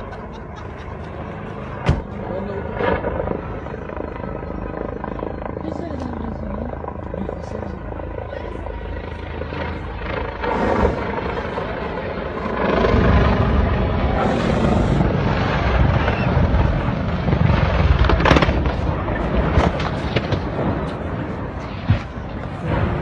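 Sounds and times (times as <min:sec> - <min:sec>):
helicopter running: 0:00.0 - 0:23.0.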